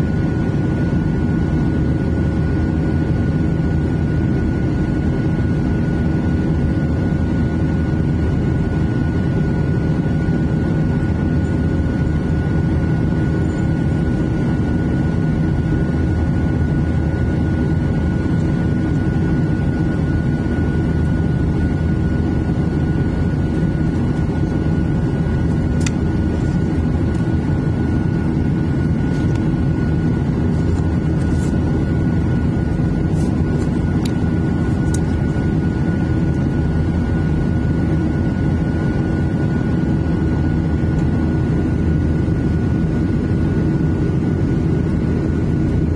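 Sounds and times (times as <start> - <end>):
aircraft cabin engine drone: 0.0 - 45.9
thin steady whine: 0.0 - 45.9.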